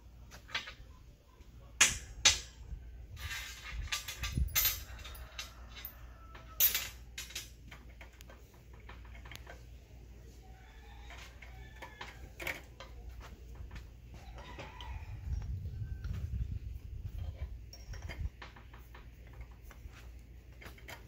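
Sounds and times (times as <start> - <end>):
wire rope rattling on metal: 1.8 - 9.9, 10.7 - 21.0.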